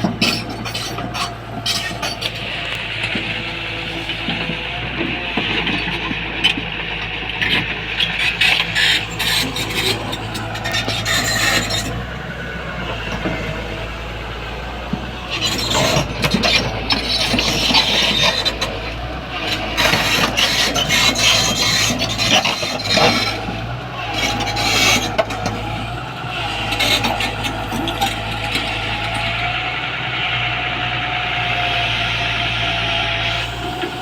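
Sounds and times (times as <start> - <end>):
excavator diesel engine running: 0.0 - 34.0
scraping and squealing: 0.0 - 34.0.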